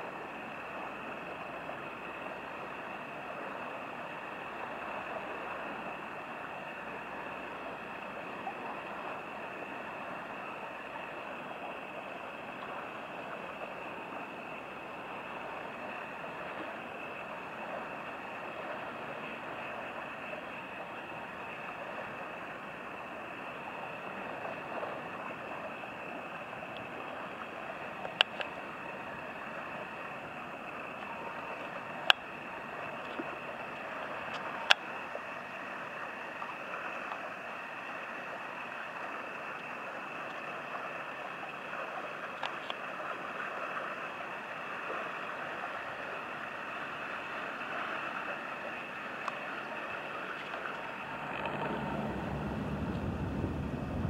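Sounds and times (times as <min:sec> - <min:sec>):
passing motor barge: 0:00.0 - 0:54.0
river water rushing: 0:00.0 - 0:54.0.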